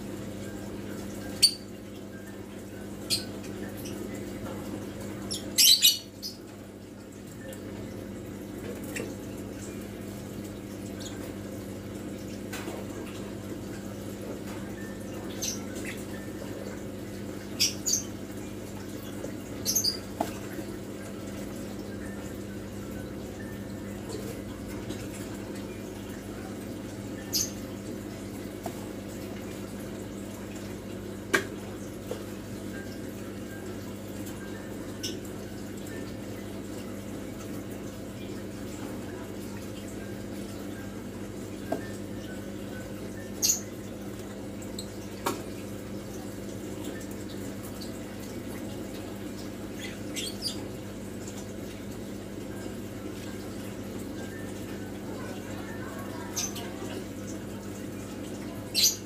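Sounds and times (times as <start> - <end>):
aquarium equipment hum: 0.0 - 59.0
water trickling: 0.0 - 59.0.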